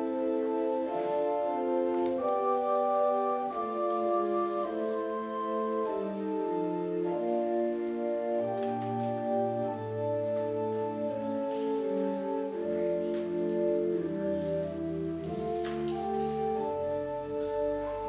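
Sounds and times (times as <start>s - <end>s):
church organ chords: 0.0s - 18.0s.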